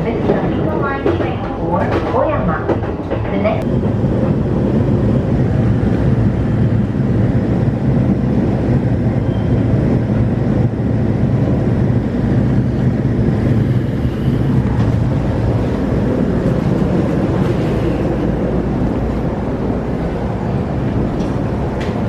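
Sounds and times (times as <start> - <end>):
train rumbling inside car: 0.0 - 22.0.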